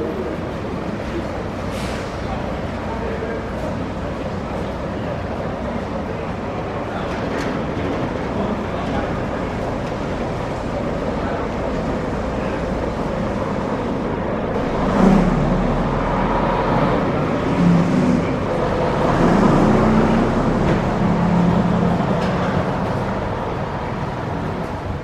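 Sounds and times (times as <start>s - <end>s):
bus engine running: 0.0s - 25.0s
road noise: 0.0s - 25.0s.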